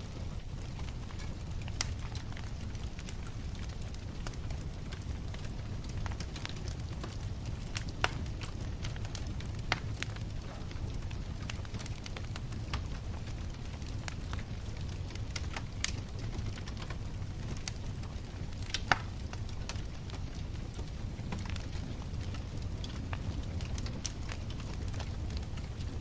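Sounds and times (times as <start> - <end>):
bonfire flame rumble: 0.0 - 26.0
fire crackling and popping: 0.0 - 26.0.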